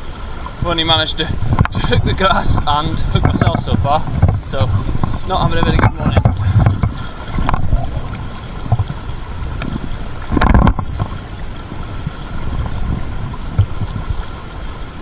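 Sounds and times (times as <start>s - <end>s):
river water flowing and gurgling: 0.0s - 15.0s
wind buffeting microphone: 0.0s - 15.0s.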